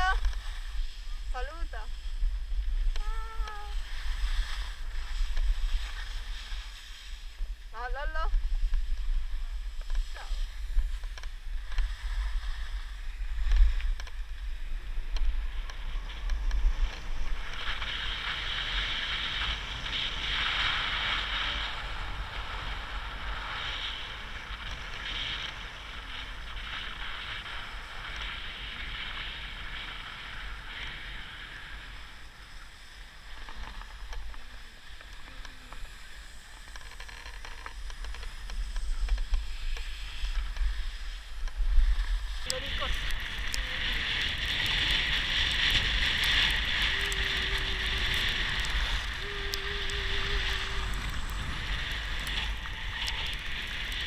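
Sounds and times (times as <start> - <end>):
skis scraping over snow: 0.0 - 54.0
wind rumble on microphone: 0.0 - 54.0.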